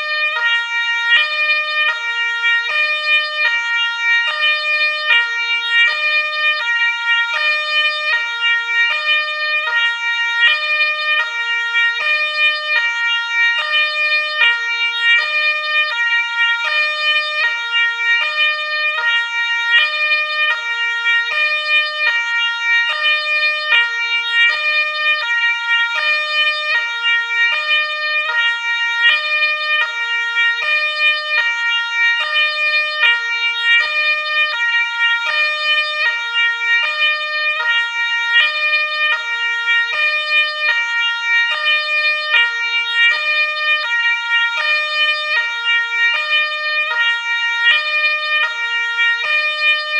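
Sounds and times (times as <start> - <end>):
two-tone ambulance siren: 0.0 - 49.9.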